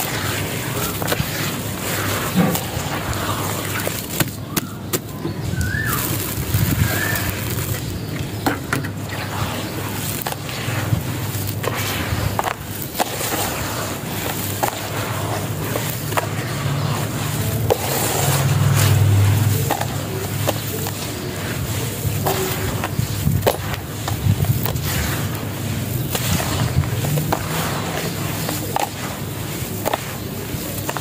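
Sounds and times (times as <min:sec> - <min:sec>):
grit clicking: 0:00.0 - 0:31.0
wet sand crunching by hand: 0:00.0 - 0:31.0.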